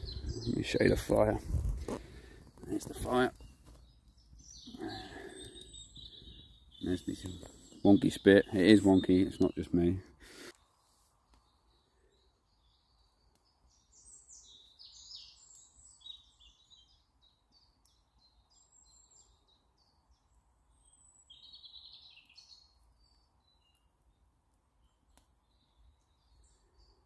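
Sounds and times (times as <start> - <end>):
birds chirping and trilling: 0.0 - 23.8, 24.8 - 27.0.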